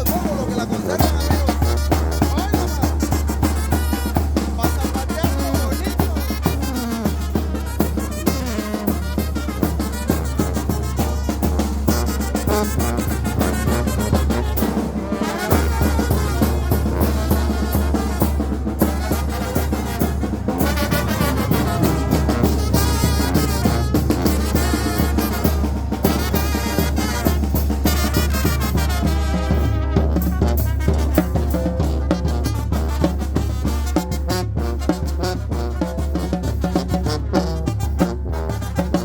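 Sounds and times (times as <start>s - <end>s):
brass band playing dance tune: 0.0s - 39.0s.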